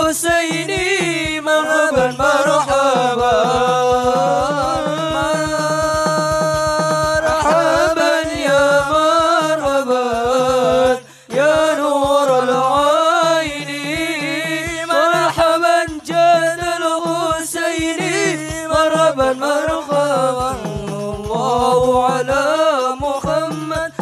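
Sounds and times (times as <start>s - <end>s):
frame drums beating: 0.0s - 24.0s
man singing melismatic phrases: 0.0s - 24.0s.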